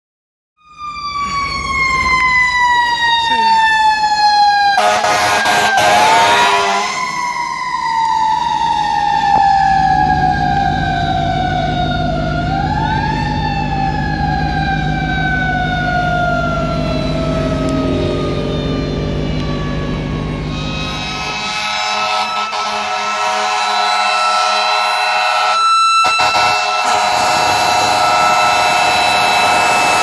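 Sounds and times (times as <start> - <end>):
fire truck siren wailing: 0.6 - 30.0.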